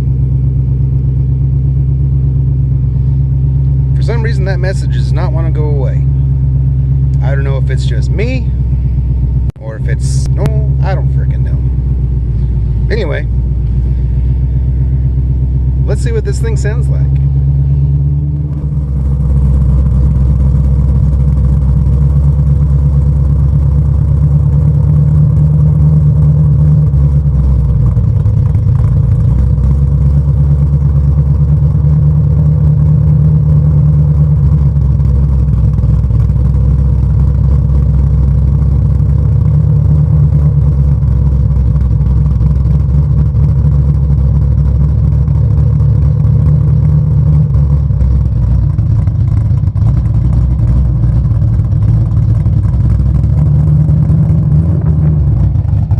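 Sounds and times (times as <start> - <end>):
car engine idling: 0.0 - 55.9.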